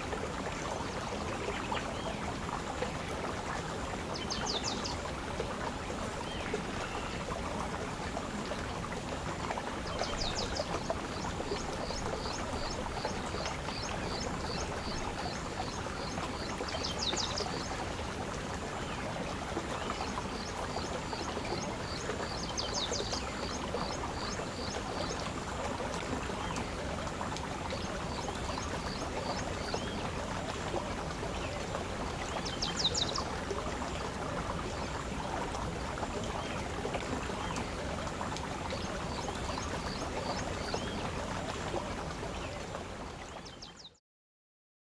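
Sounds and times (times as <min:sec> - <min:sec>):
flowing water: 0:00.0 - 0:43.9.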